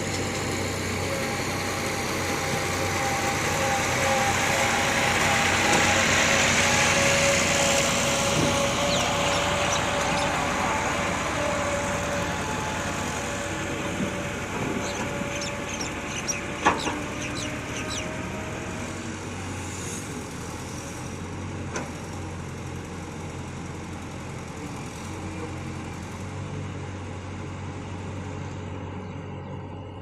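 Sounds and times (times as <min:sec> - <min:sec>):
excavator engine humming: 0:00.0 - 0:30.0.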